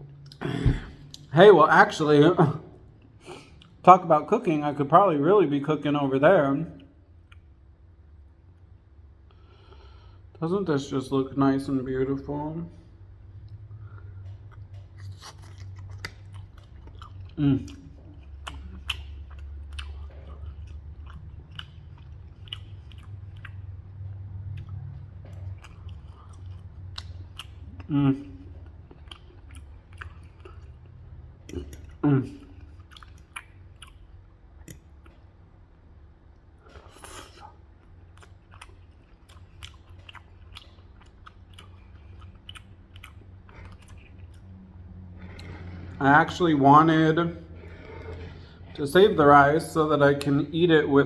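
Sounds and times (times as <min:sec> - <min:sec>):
low steady hum: 0:00.0 - 0:51.0
person chewing food: 0:02.7 - 0:03.8, 0:06.8 - 0:10.4, 0:12.8 - 0:46.5, 0:47.4 - 0:50.4.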